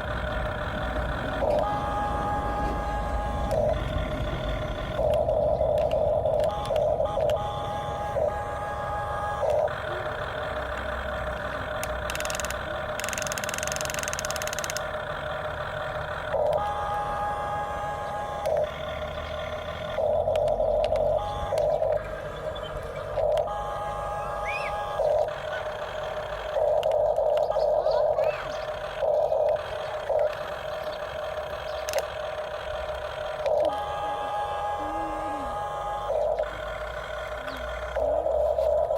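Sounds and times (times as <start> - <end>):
engine-like hum: 0.0 - 38.9
small electric motors whining: 0.0 - 38.9.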